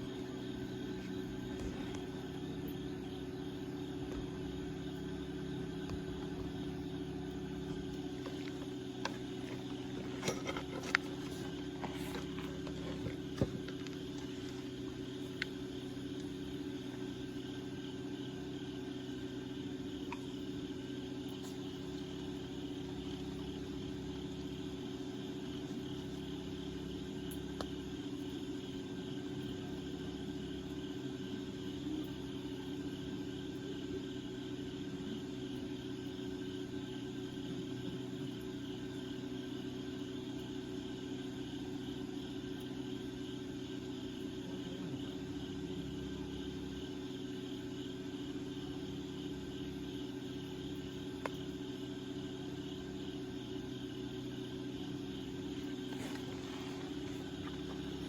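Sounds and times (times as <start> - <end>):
crickets chirring: 0.0 - 58.0
steady low hum: 0.0 - 58.0.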